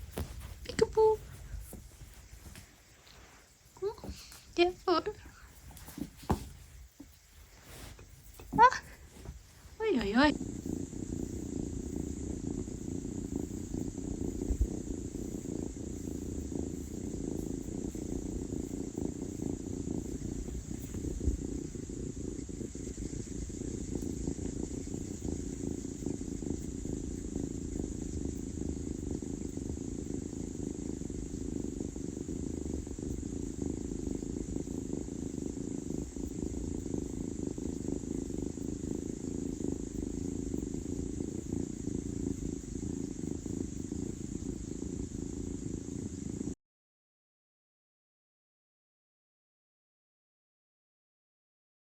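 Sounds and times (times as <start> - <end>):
cat purring: 0.0 - 46.6.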